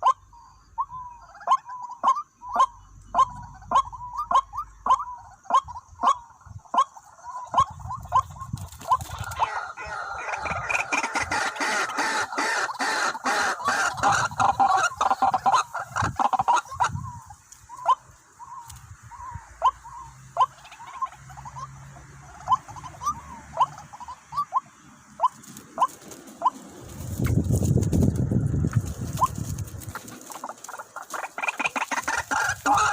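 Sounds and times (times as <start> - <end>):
waterhens calling: 0.0 - 32.9.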